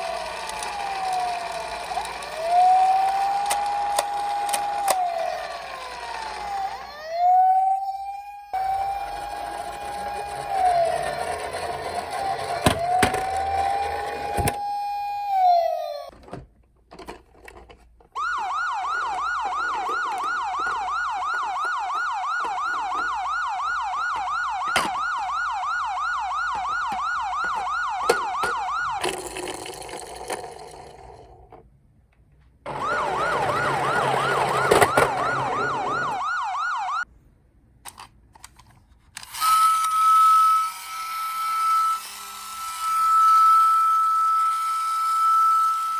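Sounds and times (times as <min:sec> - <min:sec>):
police car siren: 0:00.0 - 0:16.1, 0:18.2 - 0:31.0, 0:32.6 - 0:37.1, 0:39.4 - 0:45.9.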